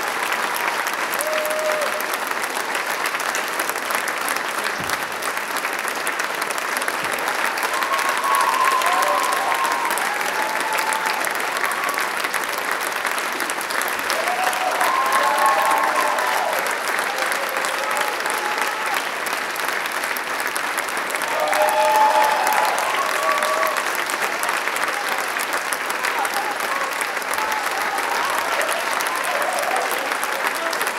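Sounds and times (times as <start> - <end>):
audience applause: 0.0 - 30.9.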